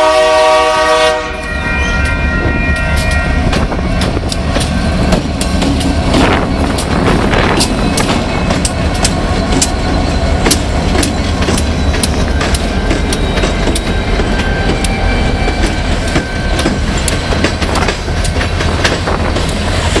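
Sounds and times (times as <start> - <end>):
freight train rumbling past: 0.0 - 20.0
wheels clicking over rail joints: 3.0 - 20.0.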